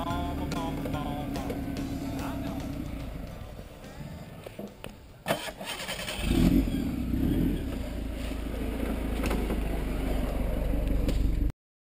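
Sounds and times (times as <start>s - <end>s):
car engine running: 0.0s - 4.9s, 6.0s - 11.5s.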